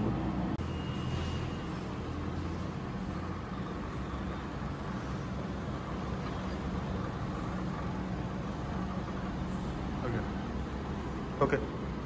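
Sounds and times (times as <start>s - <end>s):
restaurant background rumble: 0.0s - 12.0s.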